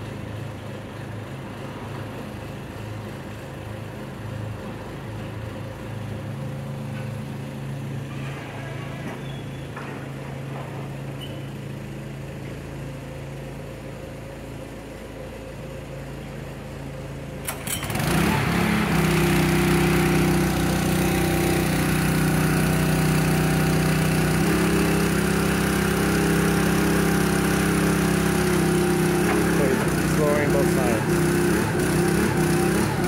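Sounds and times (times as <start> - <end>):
forklift engine idling and revving: 0.0 - 33.0.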